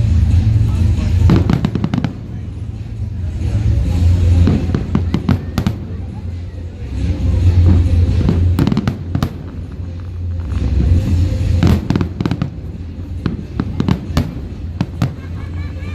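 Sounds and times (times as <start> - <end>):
fireworks bangs and crackles: 0.0 - 15.9
low rumble: 0.0 - 15.9.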